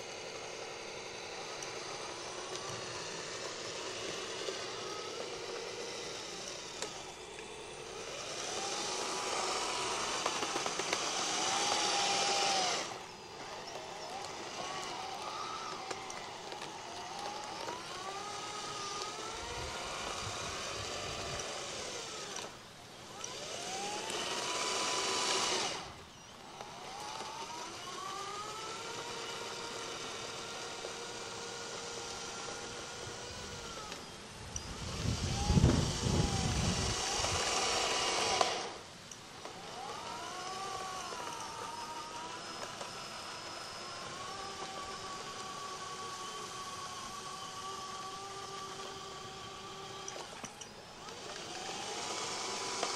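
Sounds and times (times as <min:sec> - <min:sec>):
electric motors whining: 0:00.0 - 0:52.9.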